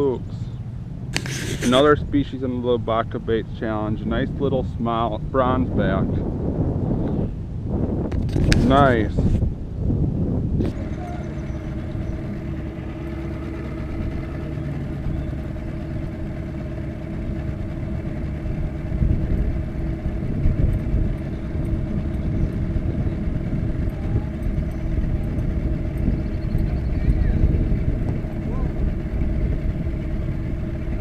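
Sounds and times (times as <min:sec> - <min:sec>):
boat motor humming: 0:00.0 - 0:31.0.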